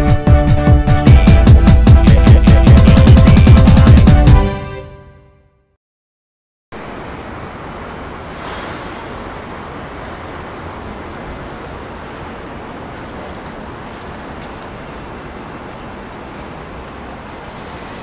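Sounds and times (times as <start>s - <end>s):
urban background din: 0.0s - 4.4s, 6.8s - 18.0s.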